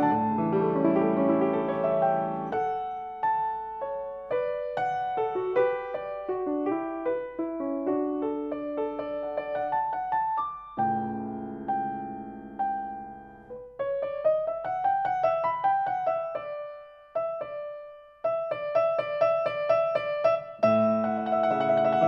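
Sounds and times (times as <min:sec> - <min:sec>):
grand piano classical piece: 0:00.0 - 0:22.0.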